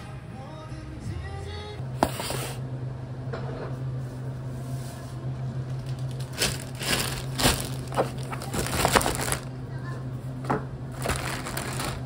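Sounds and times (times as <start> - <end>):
equipment humming: 0.0 - 12.0.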